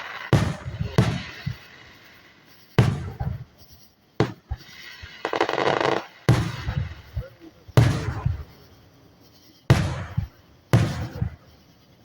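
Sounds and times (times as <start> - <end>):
firework crackling: 0.0 - 12.0
distant firework booms: 0.3 - 8.9, 9.7 - 11.7.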